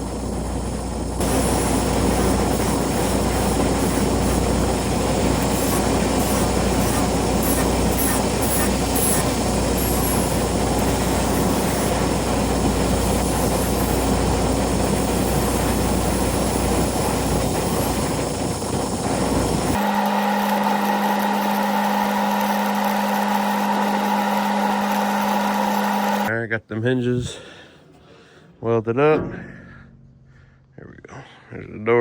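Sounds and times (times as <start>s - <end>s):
two-tone hum: 0.0s - 26.3s
welder engine running: 0.0s - 26.3s.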